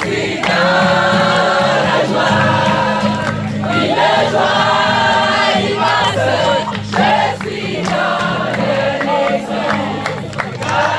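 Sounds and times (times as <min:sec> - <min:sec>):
group of voices singing: 0:00.0 - 0:10.9.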